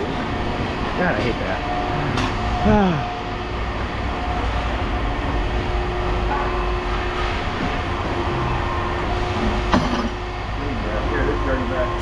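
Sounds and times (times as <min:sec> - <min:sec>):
faint hums: 0:00.0 - 0:12.0
machinery rumbling: 0:00.0 - 0:12.0.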